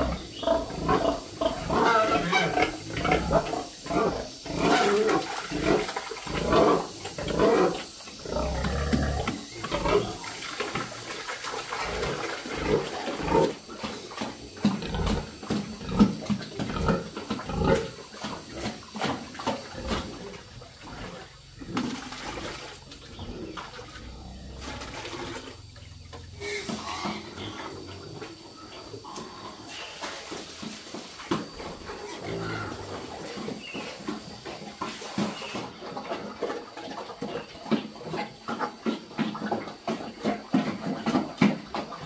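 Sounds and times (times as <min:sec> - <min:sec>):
pigs grunting loudly: 0:00.0 - 0:30.0, 0:31.7 - 0:42.0
pigs eating noisily: 0:00.0 - 0:42.0.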